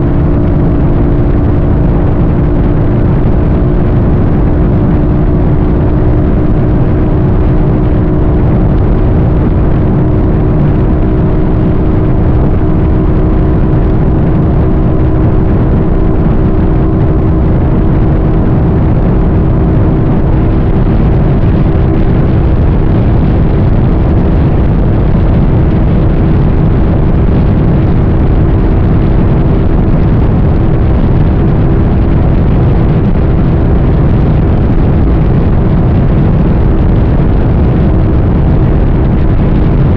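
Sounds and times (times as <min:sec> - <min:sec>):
road and wind rumble: 0:00.0 - 0:39.9
vehicle hum: 0:00.0 - 0:39.9.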